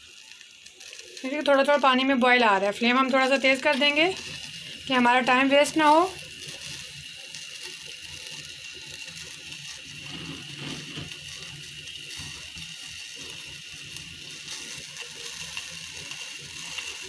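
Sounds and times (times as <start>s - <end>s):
water bubbling in saucepan: 0.0s - 17.0s.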